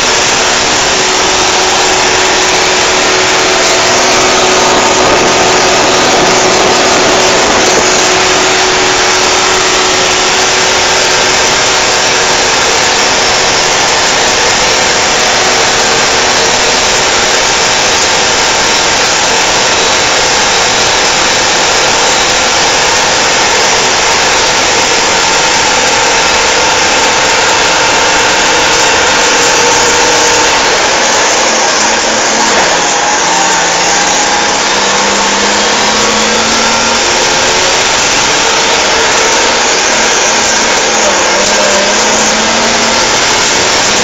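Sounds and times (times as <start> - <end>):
truck diesel engine drone: 0.0 - 44.0.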